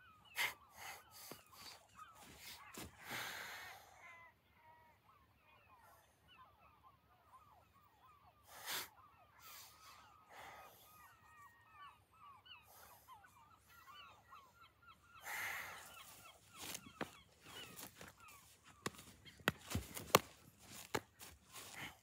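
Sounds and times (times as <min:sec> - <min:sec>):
distant flock of birds calling: 0:00.0 - 0:22.0.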